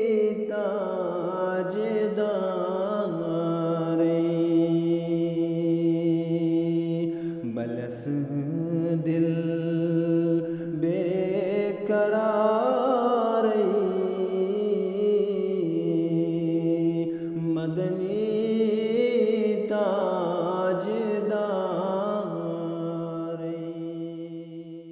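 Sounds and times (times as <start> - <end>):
man singing devotional song: 0.0 - 24.9.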